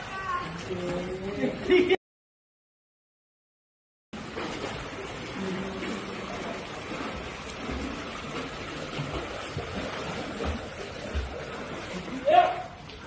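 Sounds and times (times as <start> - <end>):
pool water splashing: 0.0 - 2.0, 4.2 - 13.0.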